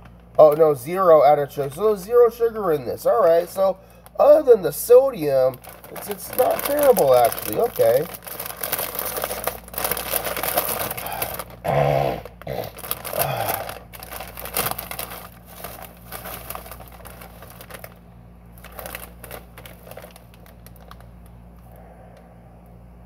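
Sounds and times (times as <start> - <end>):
chip bag crinkling: 0.0 - 21.7.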